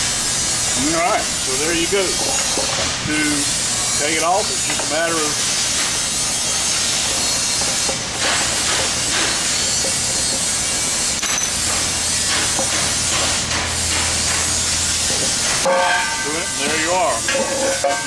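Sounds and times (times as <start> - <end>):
factory machinery hiss: 0.0 - 18.0.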